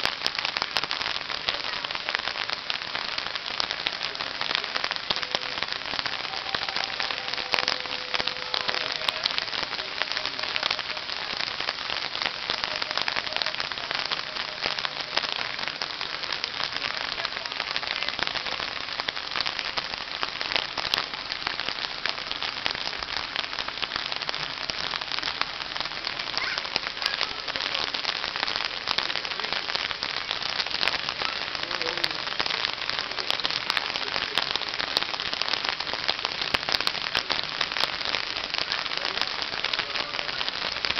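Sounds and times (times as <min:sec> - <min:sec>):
raindrops clicking on surfaces: 0:00.0 - 0:40.9
steady rain: 0:00.0 - 0:40.9.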